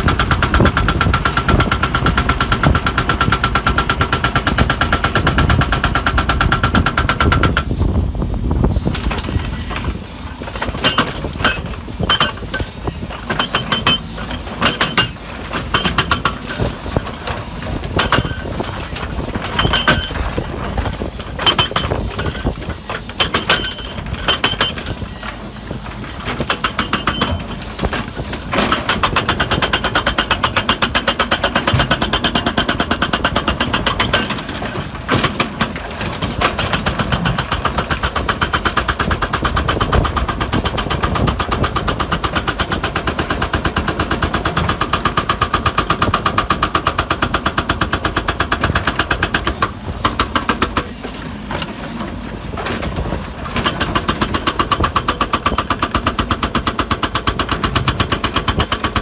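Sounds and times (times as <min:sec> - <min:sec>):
hydraulic breaker hammering rock: 0:00.0 - 0:08.0, 0:08.6 - 0:59.0
excavator engine: 0:00.0 - 0:59.0.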